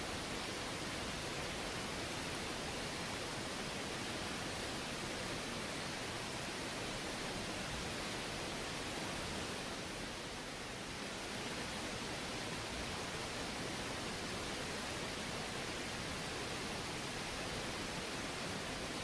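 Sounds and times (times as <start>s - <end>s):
river flowing: 0.0s - 19.0s.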